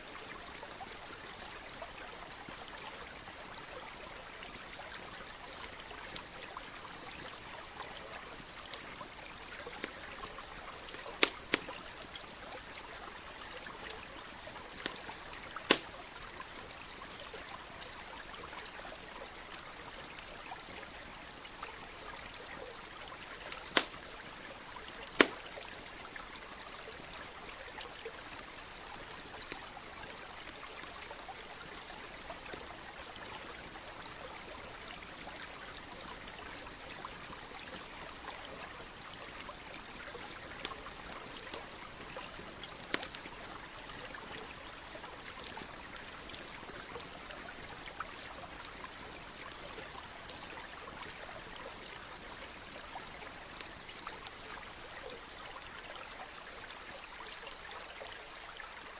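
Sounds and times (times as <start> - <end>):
campfire crackling and popping: 0.0 - 57.5.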